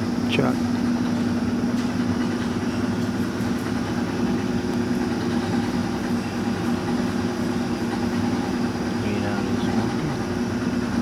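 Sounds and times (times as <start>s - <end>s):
lathe running hum: 0.0s - 11.0s.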